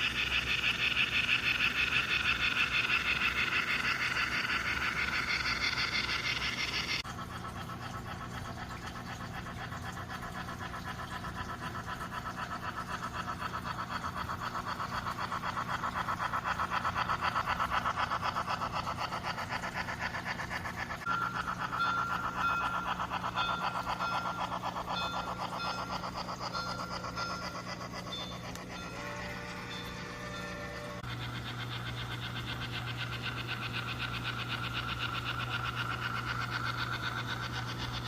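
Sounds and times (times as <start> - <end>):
low steady hum: 0.0 - 38.0
model steam locomotive chuffing: 0.0 - 38.0.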